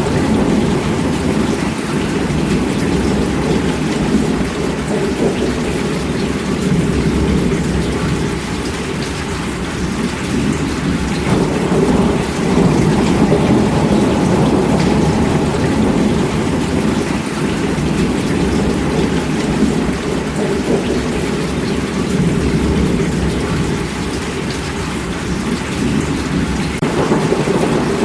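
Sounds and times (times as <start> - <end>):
heavy rainfall: 0.0 - 28.0
rolling thunder rumble: 0.0 - 28.0.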